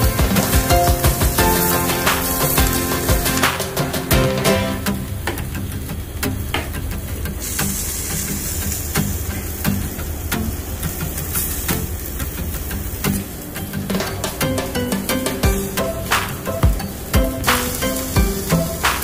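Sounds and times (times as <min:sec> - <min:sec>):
meat sizzling on a grill: 0:00.0 - 0:06.6, 0:07.2 - 0:13.8, 0:15.5 - 0:19.0.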